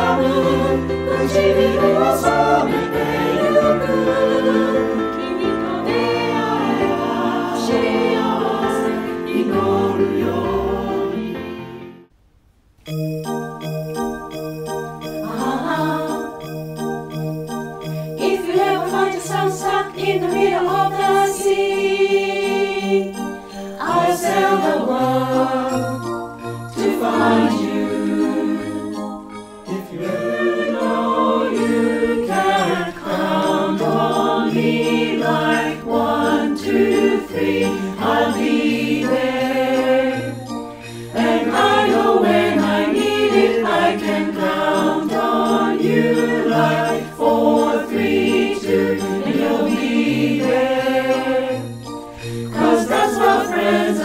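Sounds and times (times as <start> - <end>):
mixed choir singing: 0.0 - 12.1, 15.2 - 16.2, 18.2 - 54.0.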